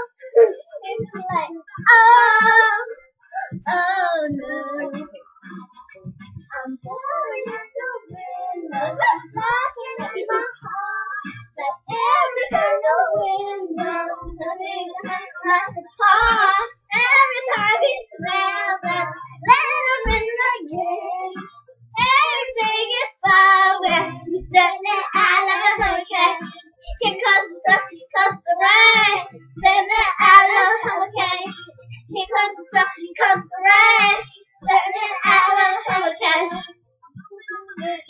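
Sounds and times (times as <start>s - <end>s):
girls singing unaccompanied: 0.0s - 5.2s, 6.5s - 38.0s.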